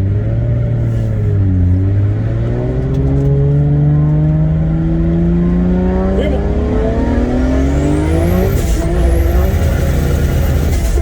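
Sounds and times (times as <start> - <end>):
turbocharged car engine accelerating: 0.0 - 11.0.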